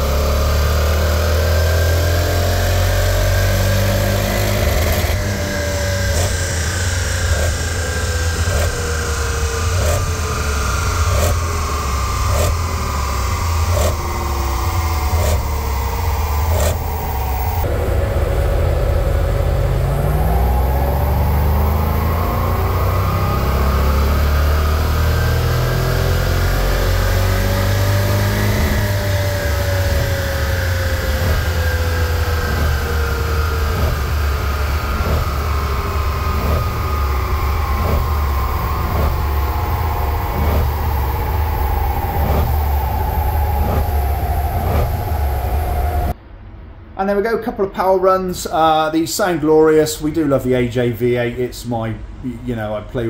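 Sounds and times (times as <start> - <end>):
car engine revving under load: 0.0 - 46.2.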